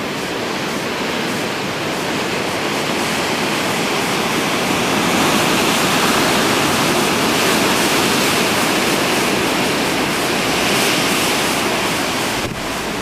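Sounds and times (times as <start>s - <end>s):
heavy surf breaking on rocks: 0.0s - 13.0s.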